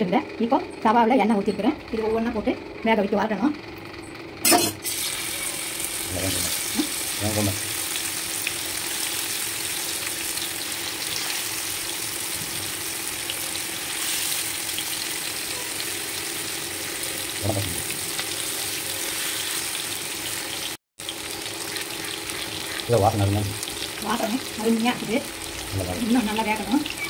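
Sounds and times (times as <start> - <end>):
fish sizzling in hot oil: 4.8 - 27.0.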